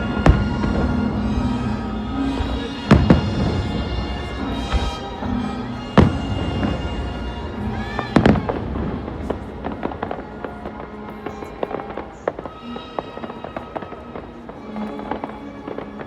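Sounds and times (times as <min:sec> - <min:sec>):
fireworks booming: 0:00.0 - 0:14.0
fireworks crackling pops: 0:00.0 - 0:16.0
music with sustained tones: 0:00.0 - 0:16.0.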